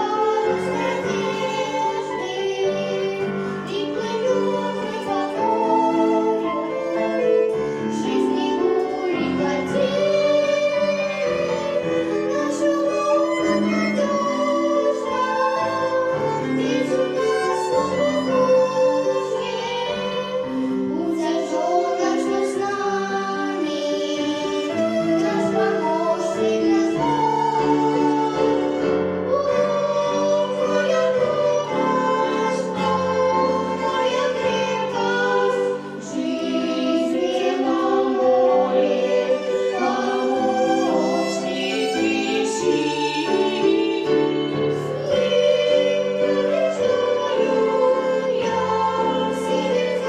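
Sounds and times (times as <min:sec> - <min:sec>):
children singing: 0:00.0 - 0:50.0
violin accompaniment: 0:00.0 - 0:50.0.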